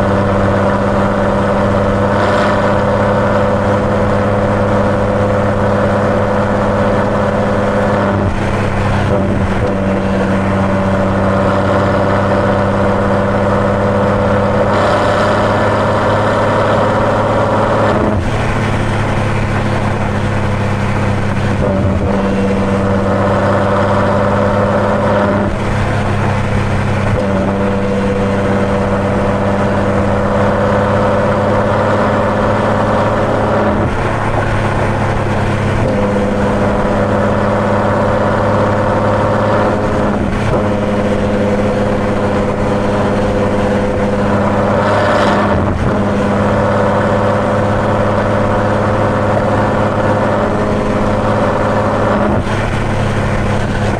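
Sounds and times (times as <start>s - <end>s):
car exhaust droning: 0.0s - 53.9s
tyre and road noise: 0.0s - 53.9s.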